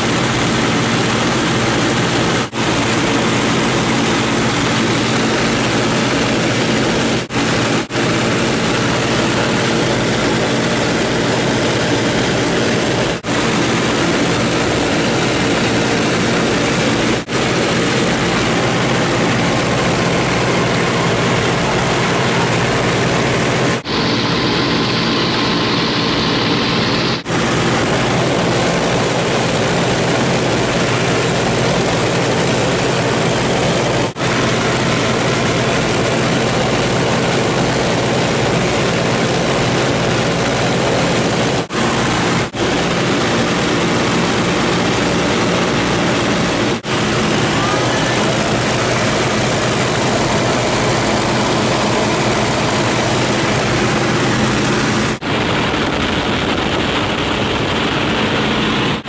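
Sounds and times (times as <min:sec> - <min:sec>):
radial aircraft engines droning: 0:00.0 - 0:59.0.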